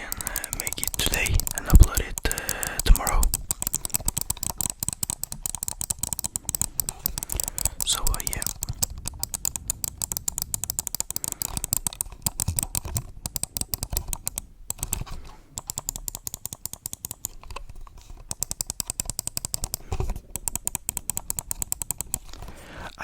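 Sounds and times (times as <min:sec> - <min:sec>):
fast typing on keyboard: 0:00.0 - 0:23.0.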